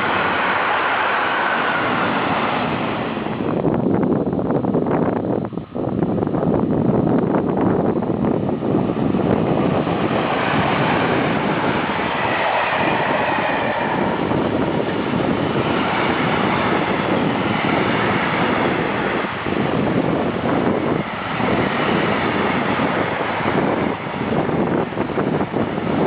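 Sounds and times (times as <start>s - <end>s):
train wheels on rails: 0.0s - 4.3s, 7.1s - 26.0s
wind on microphone: 0.0s - 26.0s.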